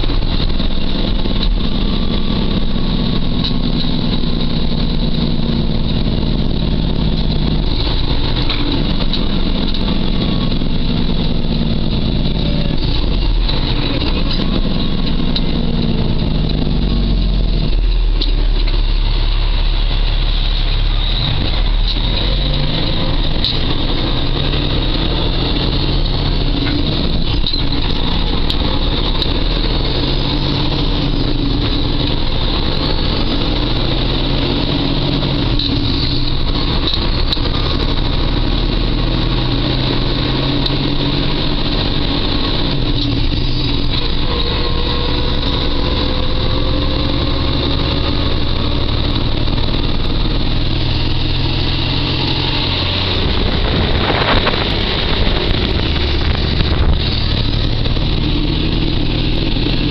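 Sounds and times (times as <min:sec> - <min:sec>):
rising transmission whine: 0:00.0 - 0:59.9
truck diesel engine shifting gears: 0:00.0 - 0:59.9.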